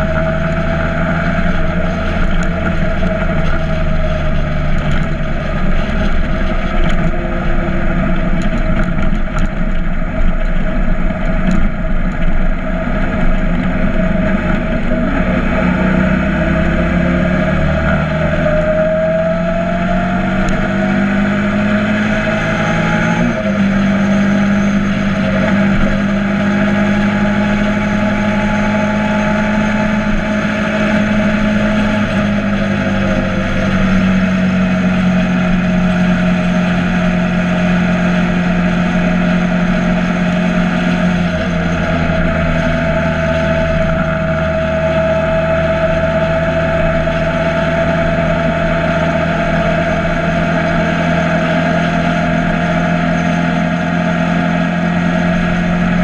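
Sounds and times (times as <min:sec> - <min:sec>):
constant rushing noise: 0:00.0 - 0:56.0
motorcycle engine running: 0:00.0 - 0:56.0.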